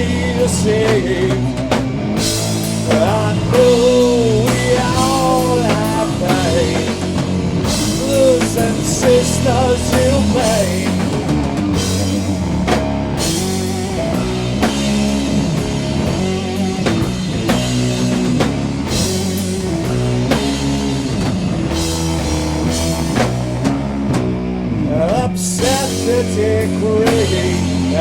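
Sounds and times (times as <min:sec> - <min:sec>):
heavy metal band playing: 0:00.0 - 0:28.0.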